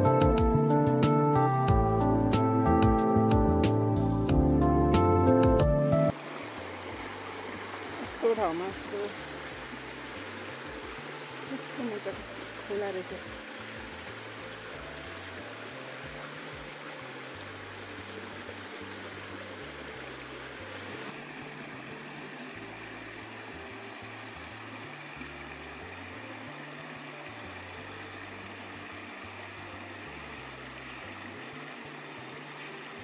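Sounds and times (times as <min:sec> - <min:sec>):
running water rushing: 0:05.7 - 0:33.0.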